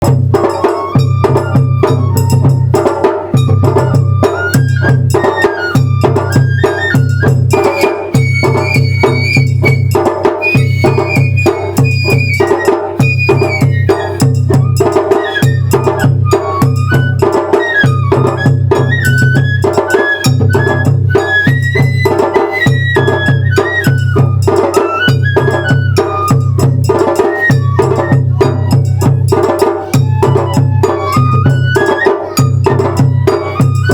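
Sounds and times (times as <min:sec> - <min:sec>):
bamboo flute melody: 0:00.0 - 0:33.9
small struck percussion: 0:00.0 - 0:33.9
taiko drums beating: 0:00.0 - 0:33.9.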